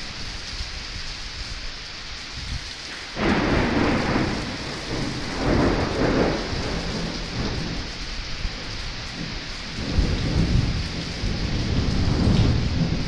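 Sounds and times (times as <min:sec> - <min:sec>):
heavy rain on street: 0:00.0 - 0:13.0
thunder crack and rumble: 0:02.4 - 0:13.0.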